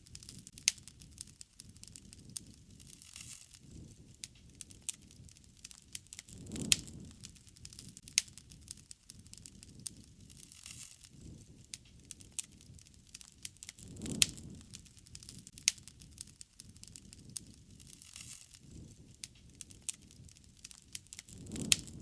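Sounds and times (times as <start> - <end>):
campfire crackling and popping: 0.0 - 22.0
low rush of flame: 0.0 - 22.0.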